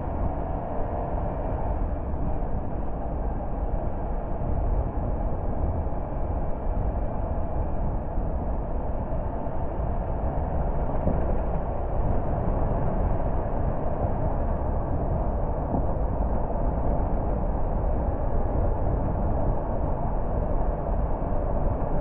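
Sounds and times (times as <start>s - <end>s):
car tyre and engine rumble: 0.0s - 22.0s.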